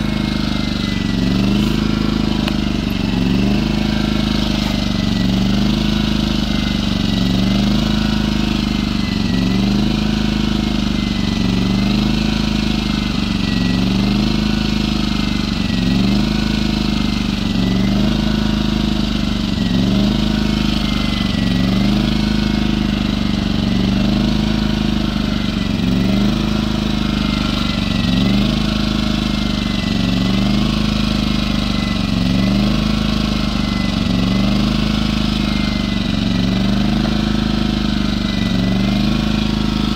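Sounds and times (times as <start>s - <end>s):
generator engine idling: 0.0s - 39.9s.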